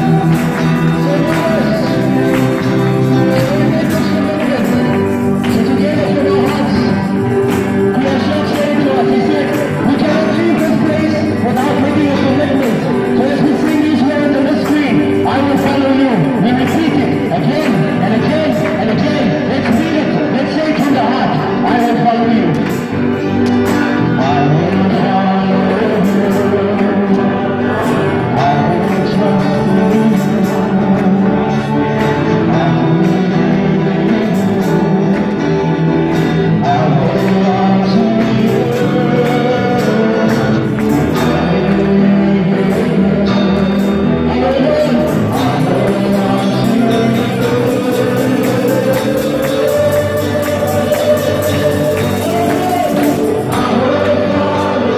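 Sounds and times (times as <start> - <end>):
steady percussion beat: 0.0 - 54.9
worship music with singing: 0.0 - 54.9.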